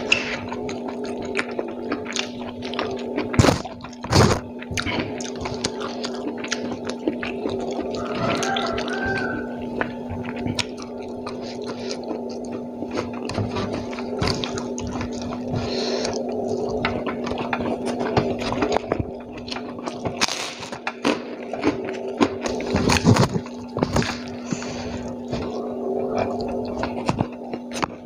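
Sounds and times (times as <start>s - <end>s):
steady low hum: 0.0s - 28.0s
wet chewing and lip-smacking: 0.0s - 28.0s.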